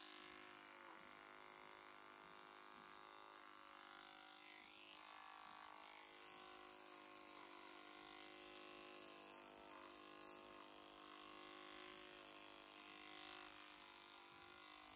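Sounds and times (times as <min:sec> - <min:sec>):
faint electric clipper running: 0:00.0 - 0:14.9.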